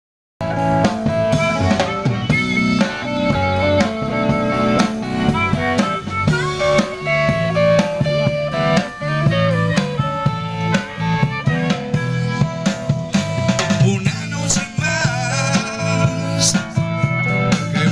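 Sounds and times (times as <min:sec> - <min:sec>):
drum kit beat: 0:00.4 - 0:17.9
guitar: 0:00.4 - 0:17.9.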